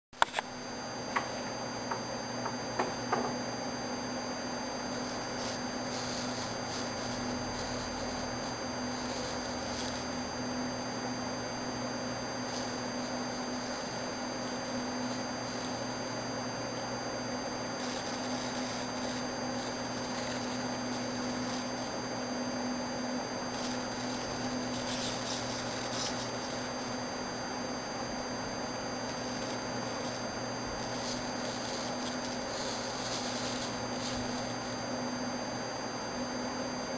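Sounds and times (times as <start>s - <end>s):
steady low hum: 0.2s - 36.9s.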